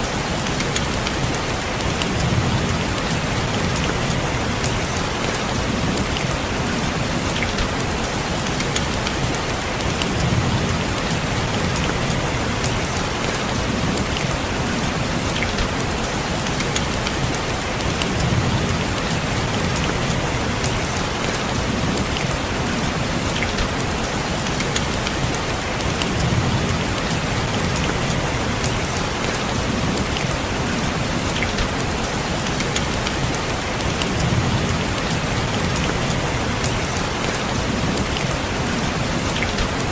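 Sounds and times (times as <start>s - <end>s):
rain on a window: 0.0s - 39.9s.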